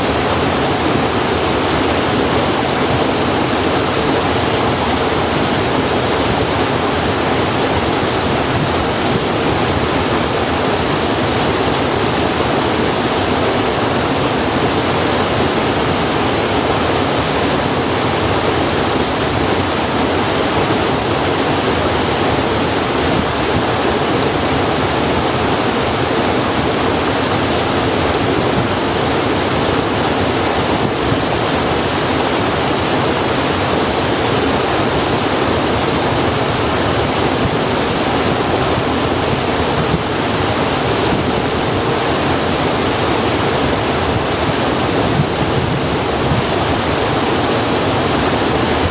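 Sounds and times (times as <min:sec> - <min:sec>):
flowing water rushing: 0:00.0 - 0:48.9.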